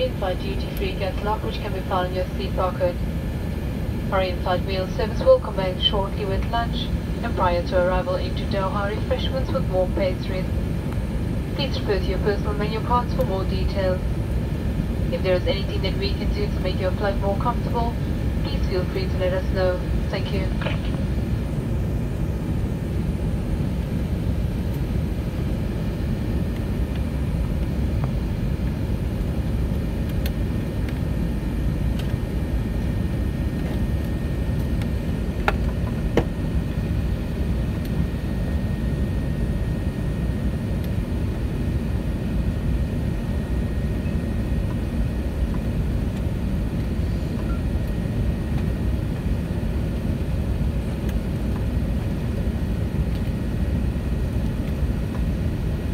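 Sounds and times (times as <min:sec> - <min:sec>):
airplane engines and rushing air: 0:00.0 - 0:55.9.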